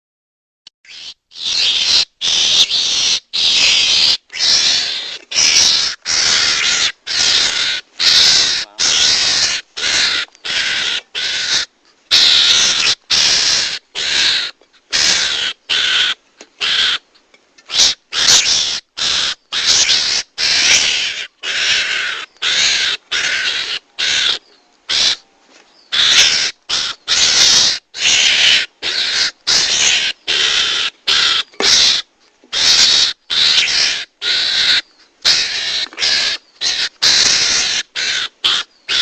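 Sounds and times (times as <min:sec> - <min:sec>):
harsh raspy mongoose calls: 0:00.8 - 0:25.2, 0:25.8 - 0:39.0.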